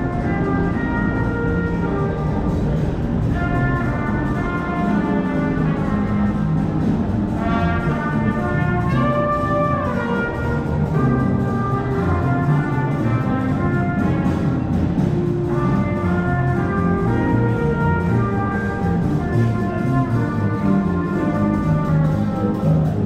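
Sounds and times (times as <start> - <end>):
brass downward pitch slides: 0.0 - 23.0
brass instruments sustained notes: 0.0 - 23.0.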